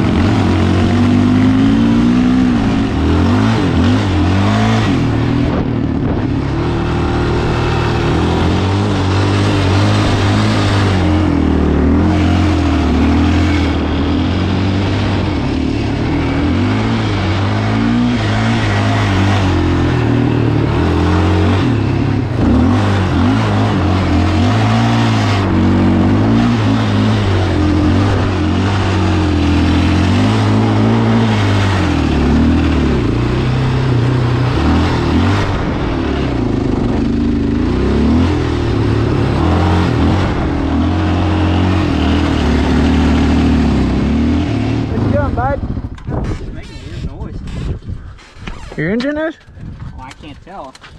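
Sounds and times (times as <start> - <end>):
quad engine revving: 0.0 - 49.3.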